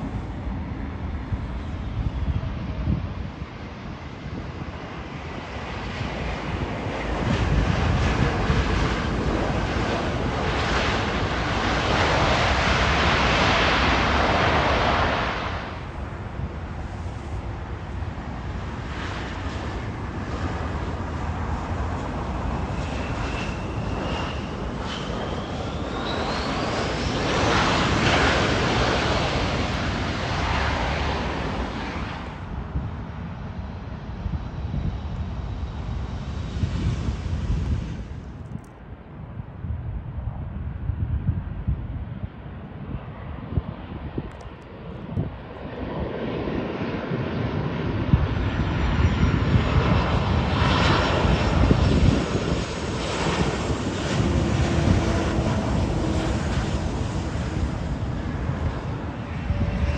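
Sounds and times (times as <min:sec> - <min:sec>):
jet engines rushing: 0:00.0 - 0:39.4, 0:40.0 - 0:59.9.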